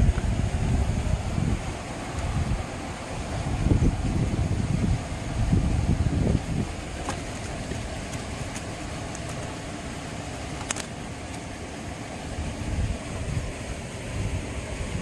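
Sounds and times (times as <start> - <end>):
wind rumbling on microphone: 0.0 - 9.8, 12.3 - 15.0.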